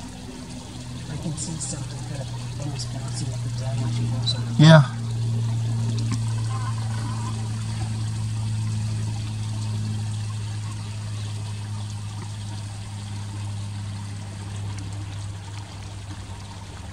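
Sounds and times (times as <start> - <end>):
low hum: 0.0 - 16.9
pond water feature trickling: 0.0 - 16.9.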